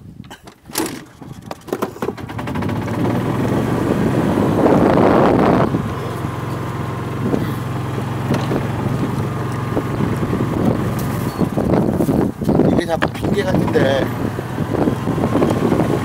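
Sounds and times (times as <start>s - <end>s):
golf cart motor humming: 0.7s - 16.0s.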